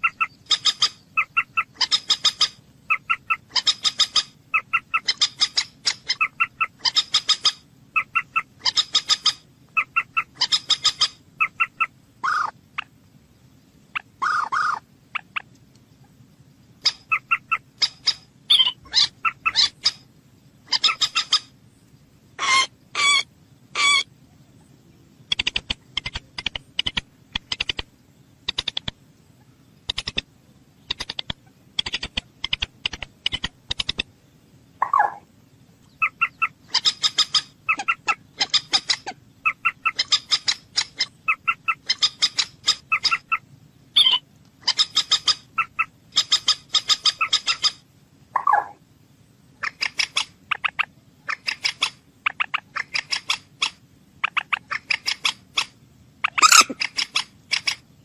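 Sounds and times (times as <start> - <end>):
moorhen clicking calls: 0.0 - 13.0, 13.9 - 21.6, 22.4 - 24.1, 24.9 - 34.2, 34.8 - 48.8, 49.6 - 58.0.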